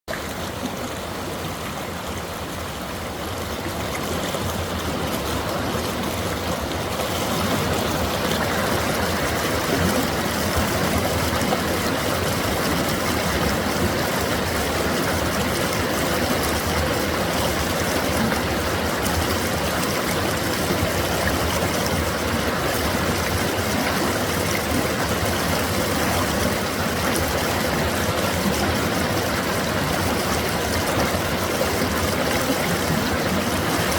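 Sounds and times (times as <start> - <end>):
stream rushing and trickling: 0.1 - 33.9.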